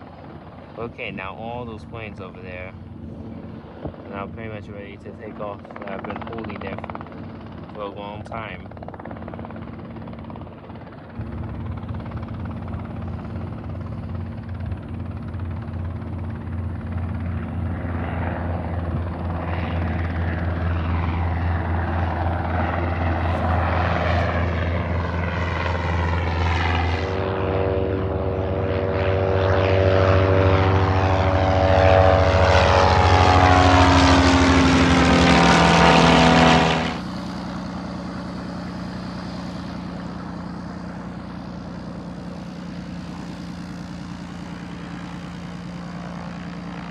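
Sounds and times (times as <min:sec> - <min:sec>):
propeller airplane engine: 0:00.0 - 0:46.9.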